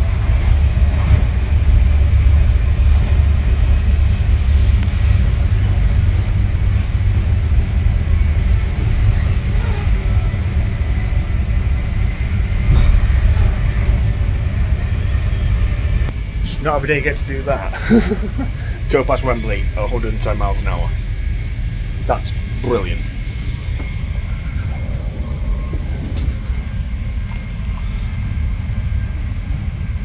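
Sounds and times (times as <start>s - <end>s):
train coach rumbling on rails: 0.0s - 30.0s.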